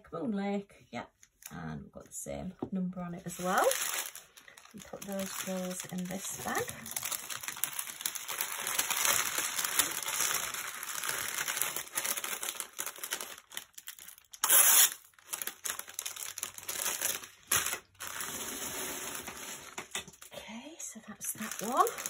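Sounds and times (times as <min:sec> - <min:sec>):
plastic bags crinkling: 0:03.2 - 0:20.3, 0:21.1 - 0:22.0.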